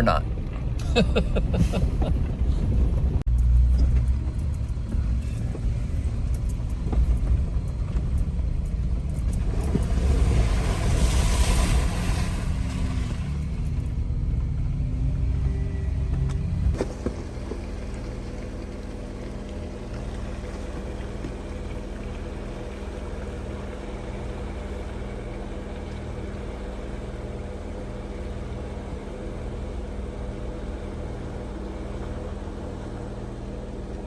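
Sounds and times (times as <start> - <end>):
off-road vehicle engine rumbling: 0.0 - 34.0.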